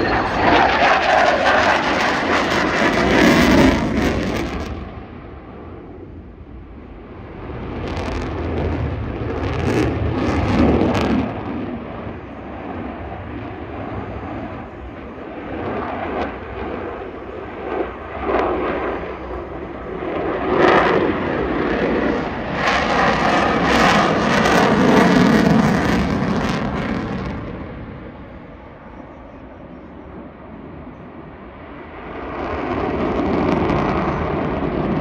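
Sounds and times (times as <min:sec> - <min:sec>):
fighter jet flying: 0:00.0 - 0:35.0.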